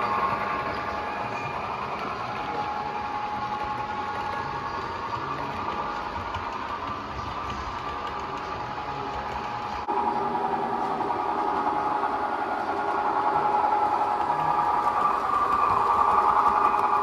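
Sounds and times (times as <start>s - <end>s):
model train hum and whine: 0.0s - 17.0s.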